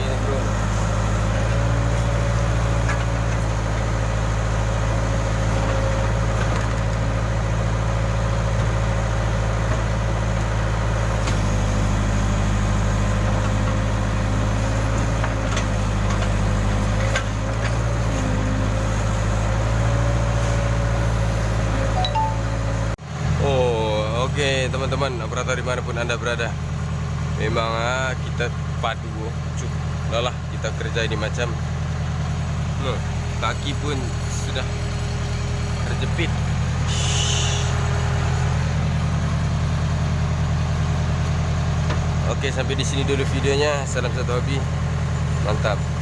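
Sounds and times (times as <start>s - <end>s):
diesel engine running steadily: 0.0s - 46.0s.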